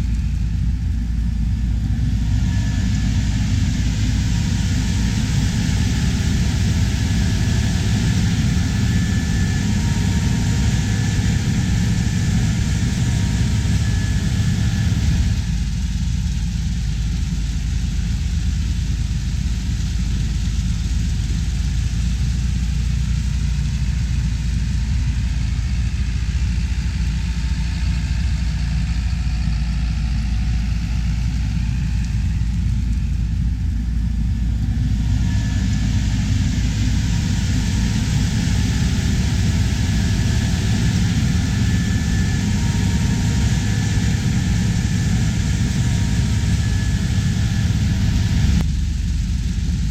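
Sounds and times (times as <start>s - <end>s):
farm machinery engine running: 0.0s - 49.9s.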